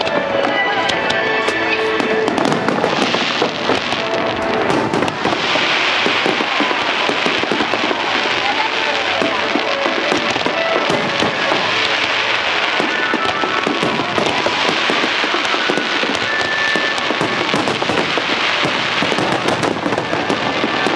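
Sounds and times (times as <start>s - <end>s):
fireworks crackling and popping: 0.0s - 20.9s.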